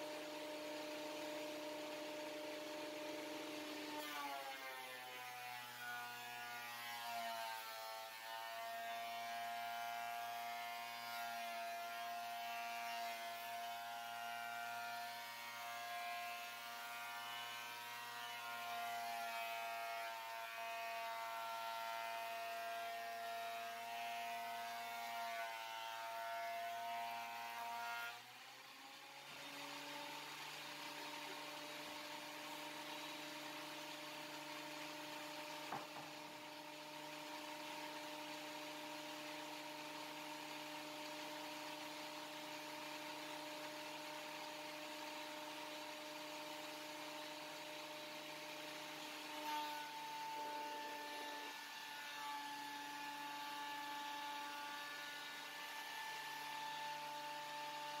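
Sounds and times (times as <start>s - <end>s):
thickness planer cutting wood: 0.0s - 58.0s.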